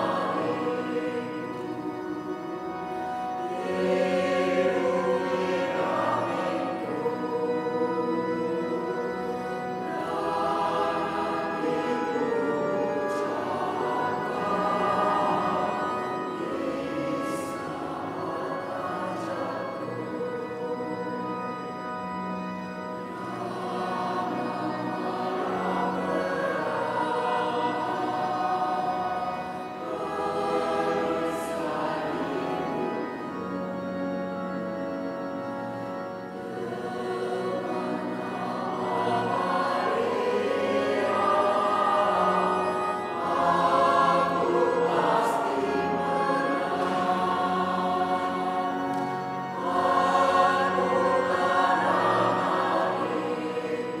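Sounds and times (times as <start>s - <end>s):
choir singing a hymn: 0.0s - 54.0s
instrumental accompaniment: 0.0s - 54.0s.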